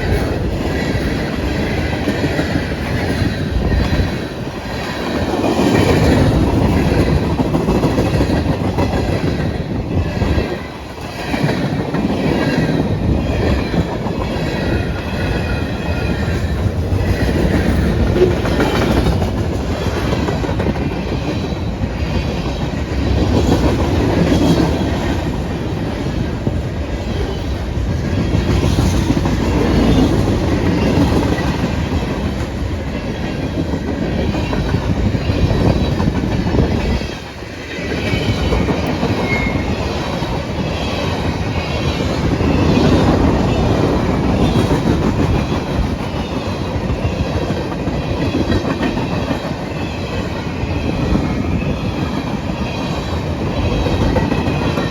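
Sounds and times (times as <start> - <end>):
freight train wheels on rails: 0.0 - 54.9.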